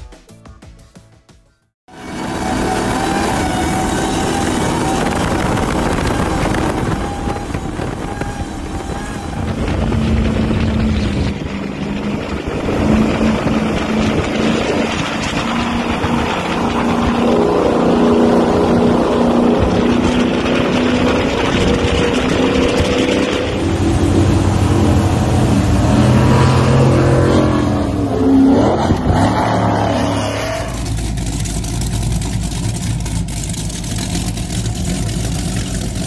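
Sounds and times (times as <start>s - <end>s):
powerboat engines running hard: 1.9s - 28.0s, 30.7s - 36.0s
boat engine drone: 1.9s - 36.0s
wind and water rush: 2.0s - 36.0s.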